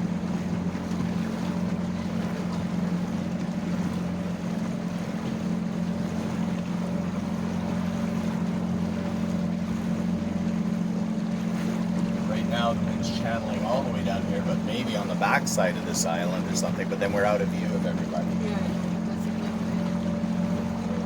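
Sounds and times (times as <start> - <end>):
boat motor humming: 0.0 - 21.0
water noise: 0.0 - 21.0
wind: 0.0 - 21.0.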